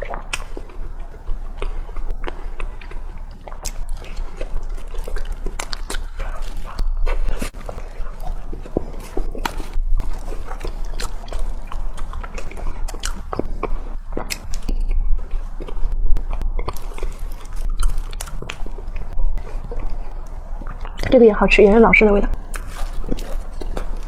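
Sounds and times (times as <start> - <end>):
bread being chewed: 0.0 - 21.1, 22.4 - 24.0.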